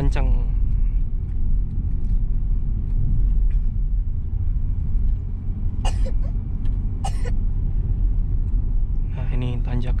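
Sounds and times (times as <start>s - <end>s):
road and engine rumble in car: 0.0s - 10.0s.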